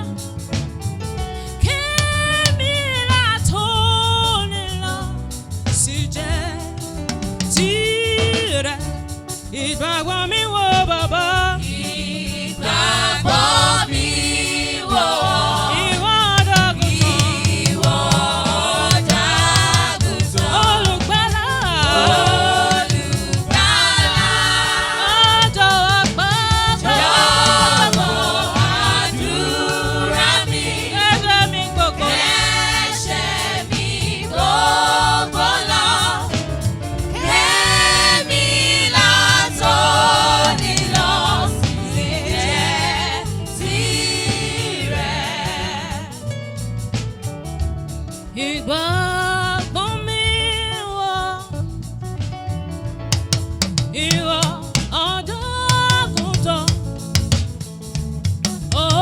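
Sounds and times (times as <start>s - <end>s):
voices singing gospel song: 0.0s - 0.6s, 1.2s - 47.3s, 53.9s - 57.9s, 58.6s - 59.0s
instrumental accompaniment: 0.0s - 59.0s.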